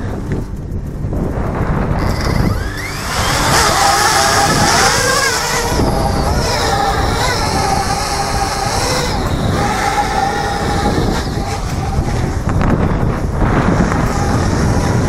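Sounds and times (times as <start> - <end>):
drone propellers humming: 0.0 - 15.0
wind noise on microphone: 0.0 - 15.0.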